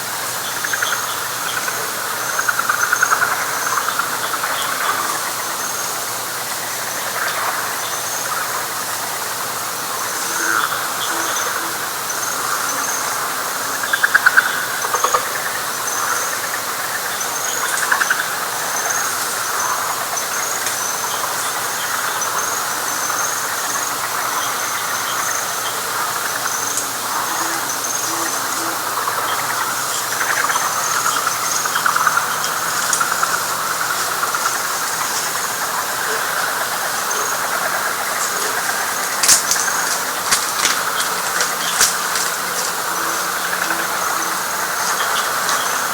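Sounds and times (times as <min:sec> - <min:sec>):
frog chorus chirping and trilling: 0:00.0 - 0:45.9.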